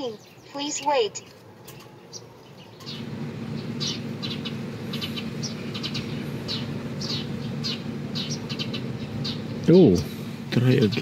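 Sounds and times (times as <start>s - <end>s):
birds chirping: 0.0s - 11.0s
steady low hum: 1.5s - 11.0s.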